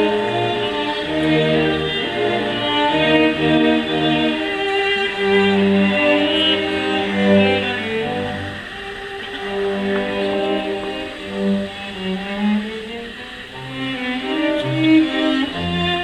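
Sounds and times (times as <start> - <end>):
violins playing held notes: 0.0 - 16.0.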